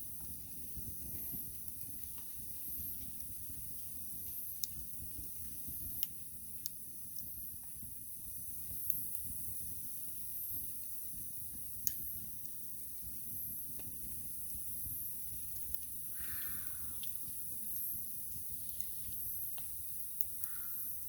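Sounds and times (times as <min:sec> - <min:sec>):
steady fire hiss: 0:00.0 - 0:21.0
wood fire crackling and popping: 0:00.0 - 0:21.0.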